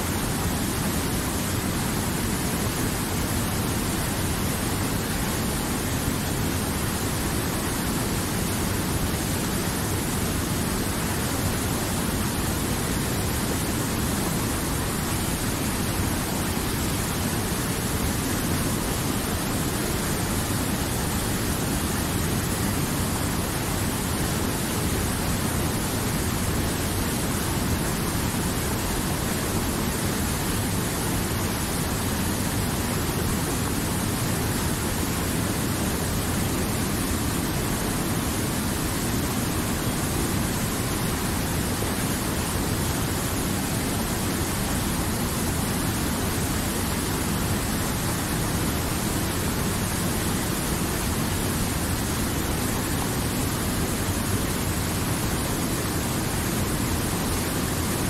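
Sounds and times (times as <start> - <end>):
river rushing over boulders: 0.0 - 58.0.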